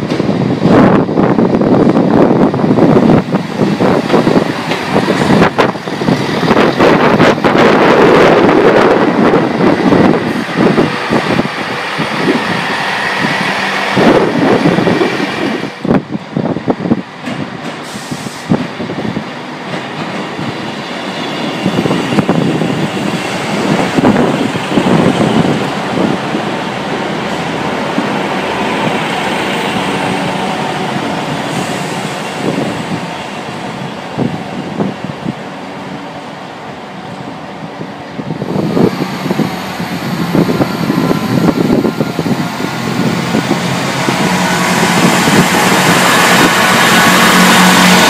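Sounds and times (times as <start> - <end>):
diesel train engine running: 0.0 - 48.0.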